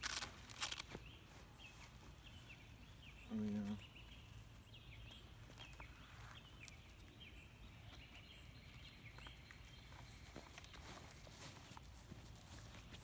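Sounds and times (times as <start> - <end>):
faint birds chirping: 0.2 - 13.0.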